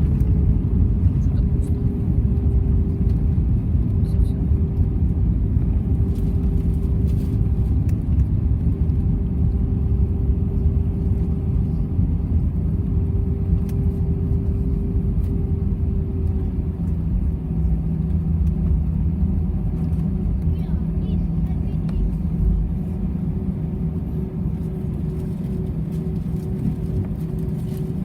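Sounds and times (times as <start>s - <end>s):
jet engines low rumble: 0.0s - 28.0s
lower hum: 0.0s - 28.0s.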